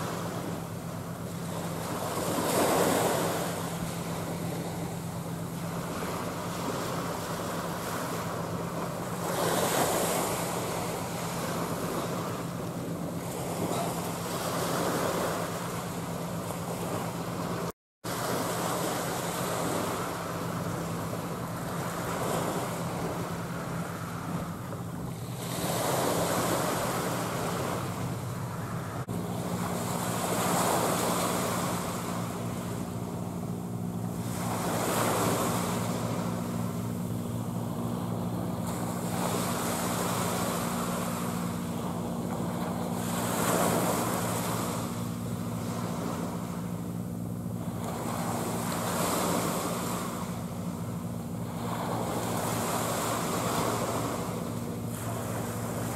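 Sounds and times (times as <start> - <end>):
low engine drone: 0.0 - 55.9
waves washing against shore: 0.0 - 55.9.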